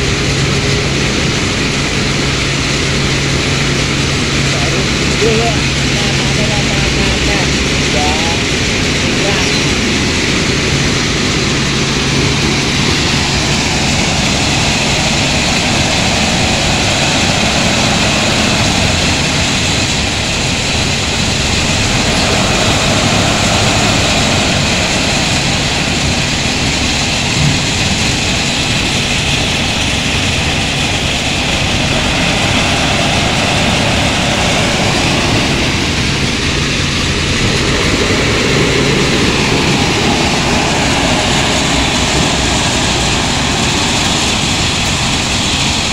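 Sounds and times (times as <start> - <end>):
diesel engine running: 0.0 - 45.9
heavy machinery din: 0.0 - 45.9.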